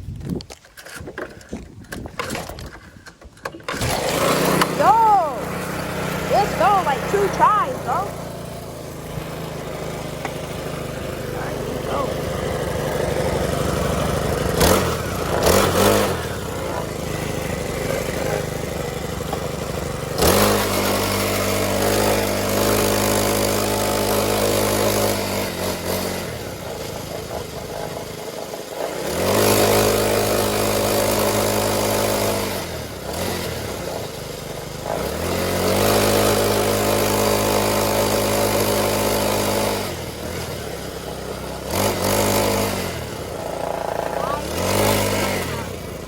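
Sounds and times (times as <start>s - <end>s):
small motorcycle engine revving: 2.1s - 46.0s.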